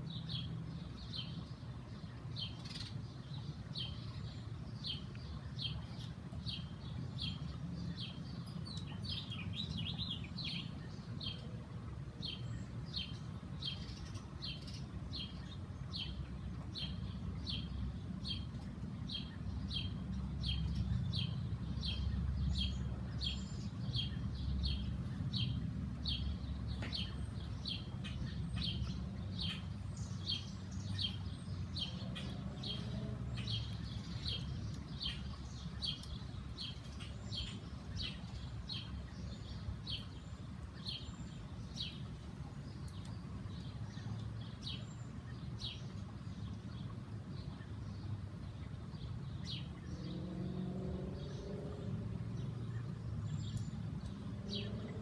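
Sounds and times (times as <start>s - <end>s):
low steady rumble: 0.0s - 55.0s
bird chirping: 0.1s - 11.5s, 12.2s - 55.0s.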